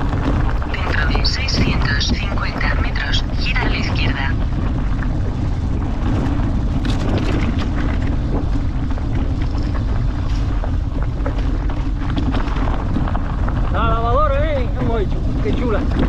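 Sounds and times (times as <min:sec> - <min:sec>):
mountain bike rattling on dirt: 0:00.0 - 0:01.5, 0:04.2 - 0:16.0
wind buffeting microphone: 0:00.0 - 0:16.0.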